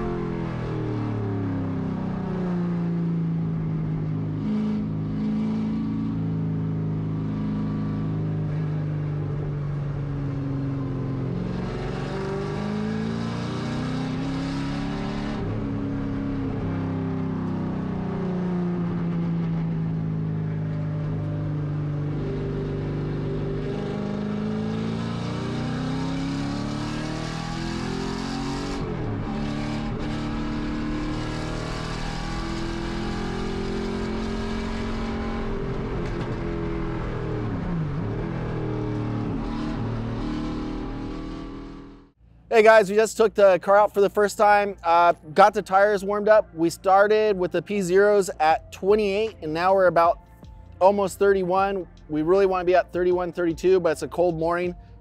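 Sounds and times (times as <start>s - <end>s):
race car engine revving: 0.0s - 54.2s.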